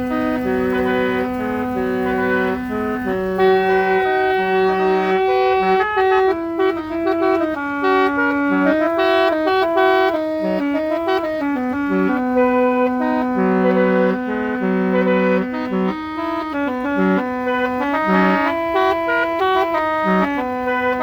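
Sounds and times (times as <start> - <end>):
musical car horn playing a tune: 0.0 - 21.0.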